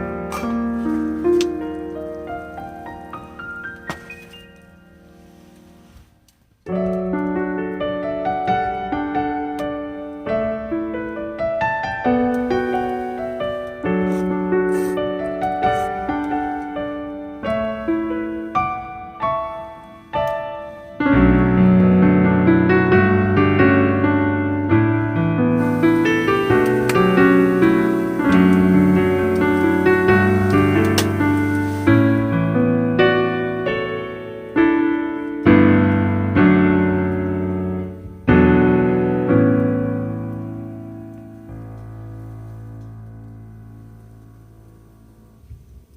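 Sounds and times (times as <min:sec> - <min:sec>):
piano music: 0:00.0 - 0:45.5.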